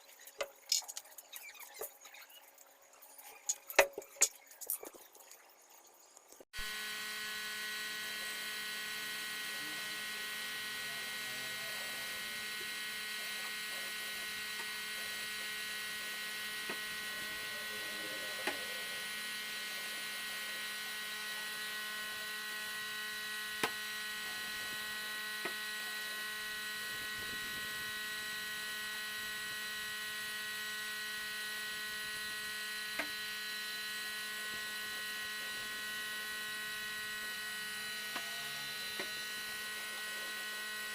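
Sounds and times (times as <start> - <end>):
power tool motor humming: 6.5 - 40.9.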